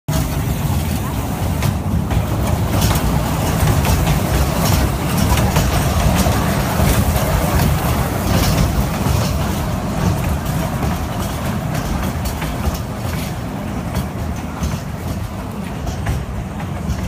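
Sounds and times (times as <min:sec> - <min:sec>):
amusement train rumbling on track: 0:00.1 - 0:17.0
clicks and rattles of train: 0:00.1 - 0:17.0.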